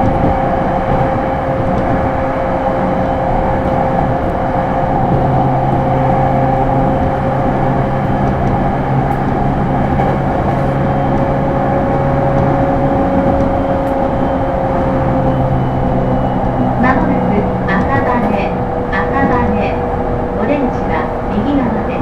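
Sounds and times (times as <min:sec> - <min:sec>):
train steady whine: 0:00.0 - 0:22.0
train wheels rumbling on rail: 0:00.0 - 0:22.0.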